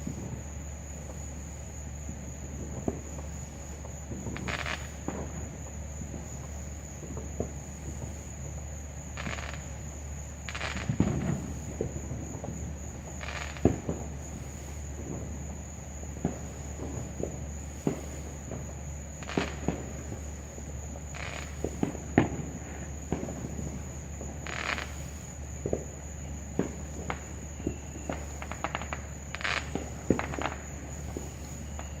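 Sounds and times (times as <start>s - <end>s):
distant fireworks popping: 0.0s - 32.0s
insects trilling: 0.0s - 32.0s.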